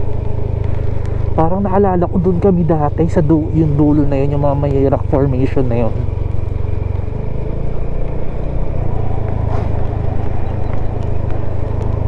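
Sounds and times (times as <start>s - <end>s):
scooter engine running: 0.0s - 12.0s
wind and road noise: 0.0s - 12.0s.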